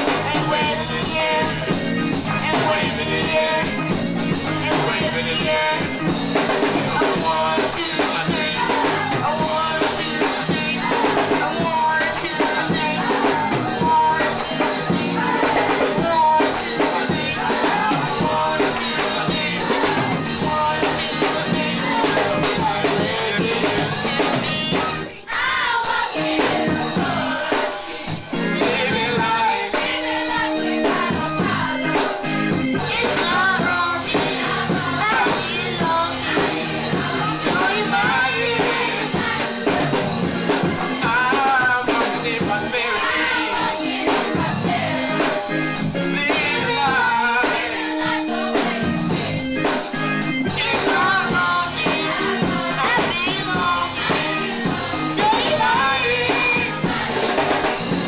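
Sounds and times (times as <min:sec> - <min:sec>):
gospel choir singing: 0:00.0 - 0:58.0
live band with drum kit: 0:00.0 - 0:58.0.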